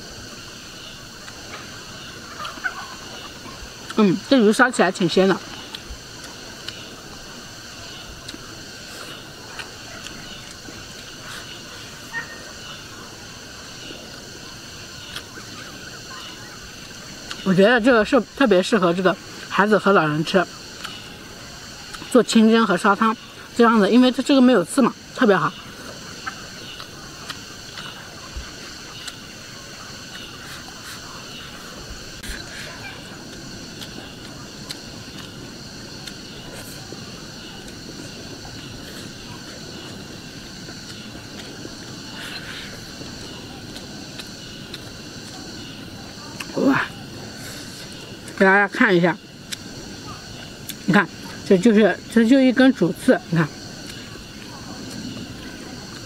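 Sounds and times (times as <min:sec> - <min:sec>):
eating sounds: 0:00.0 - 0:56.0
insects chirring: 0:00.0 - 0:56.0.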